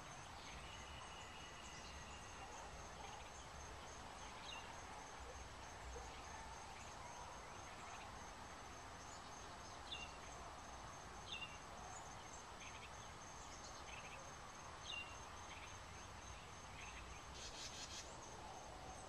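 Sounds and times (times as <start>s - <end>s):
insect trill: 0.0s - 19.0s.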